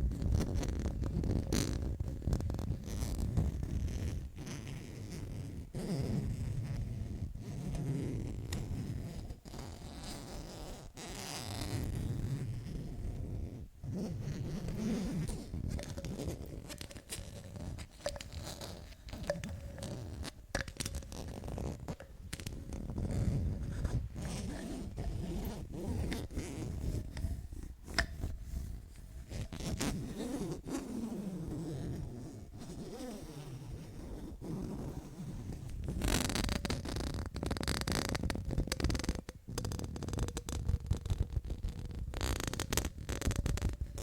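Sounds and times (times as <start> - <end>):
squeaky rubbing glides: 0.7 - 44.0.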